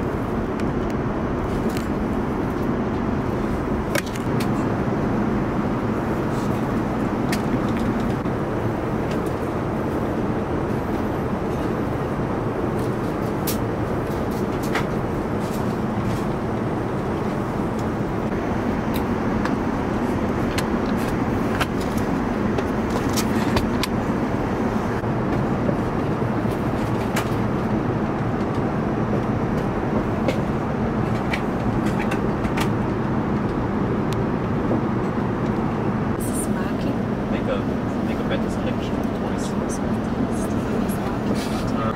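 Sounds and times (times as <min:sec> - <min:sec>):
airliner cabin drone: 0:00.0 - 0:41.9.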